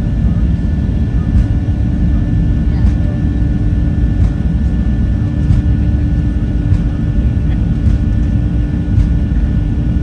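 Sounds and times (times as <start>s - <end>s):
constant hum: 0.0s - 10.0s
jet engine roar inside cabin: 0.0s - 10.0s.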